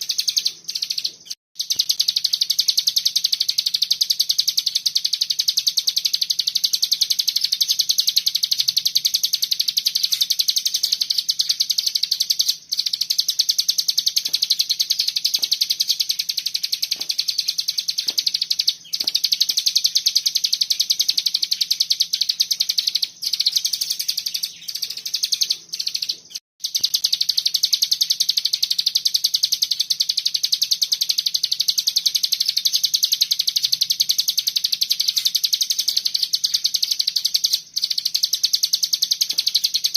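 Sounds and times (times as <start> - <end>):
songbird fast chattering trill: 0.0 - 39.9.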